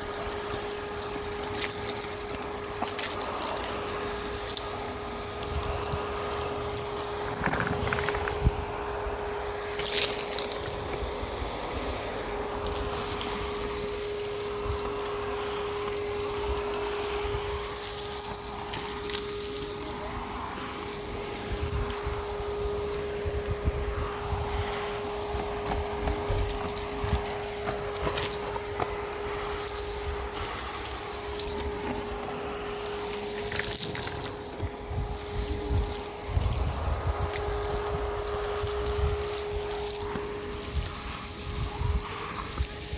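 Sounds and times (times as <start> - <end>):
grit crackling in vacuum: 0.0 - 42.9
vacuum cleaner whine: 0.0 - 42.9
wind rumbling on microphone: 1.3 - 32.4, 33.4 - 42.9.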